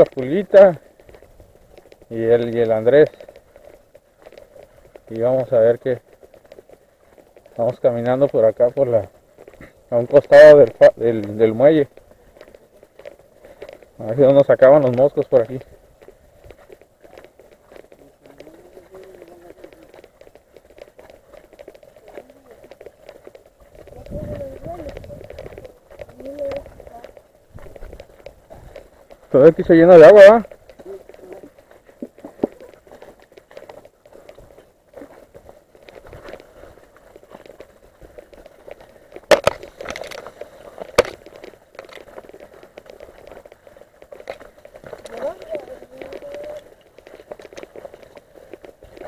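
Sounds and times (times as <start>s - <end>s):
footsteps on muddy track: 0.0s - 49.0s
grass rustling as people walk: 0.0s - 49.0s.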